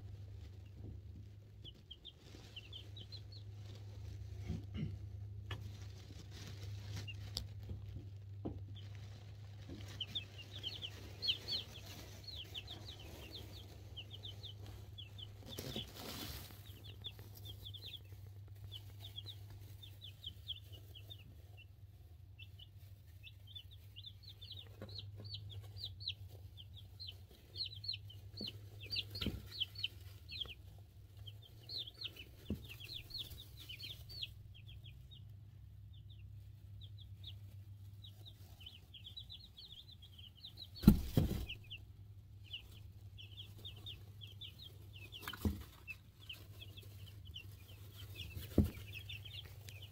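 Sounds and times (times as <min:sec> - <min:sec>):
chicks peeping: 0:00.0 - 0:49.9.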